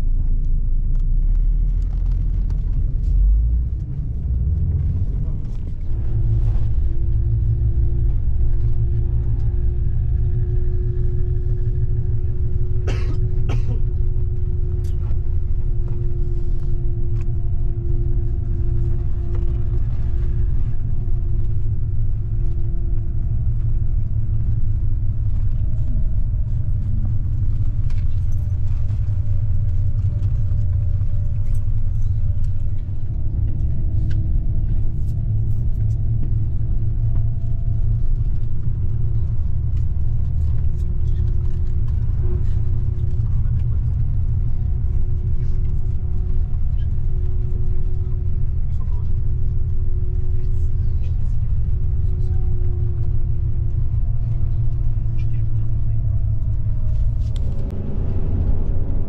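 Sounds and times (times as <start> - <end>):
coach engine and road rumble: 0.0 - 59.0
faint hum: 0.0 - 59.0.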